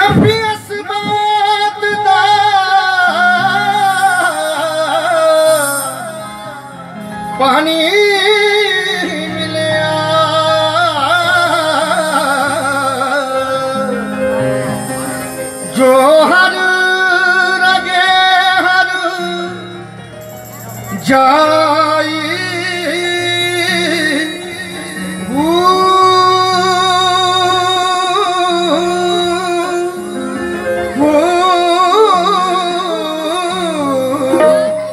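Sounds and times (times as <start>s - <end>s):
man singing wordless phrases: 0.0s - 14.2s, 15.7s - 19.9s, 20.9s - 30.2s, 30.9s - 34.9s
sustained keyboard chords: 0.0s - 34.9s.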